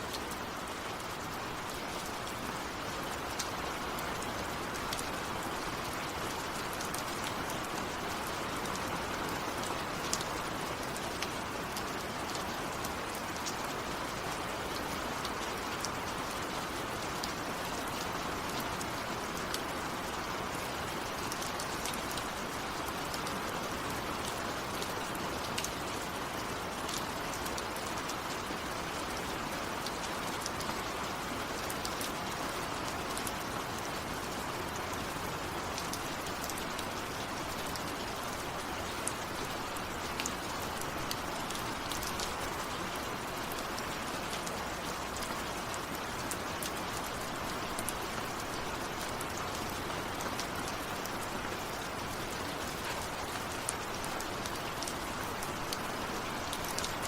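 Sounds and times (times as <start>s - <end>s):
heavy rain falling: 0.0s - 57.0s
raindrops ticking on surface: 0.1s - 57.0s.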